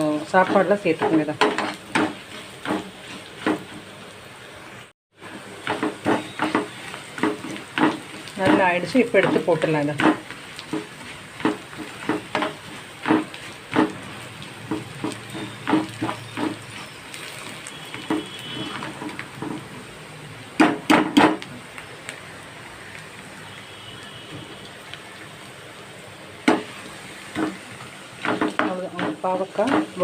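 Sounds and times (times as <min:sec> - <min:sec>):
slices sizzling in hot oil: 0:00.0 - 0:30.0.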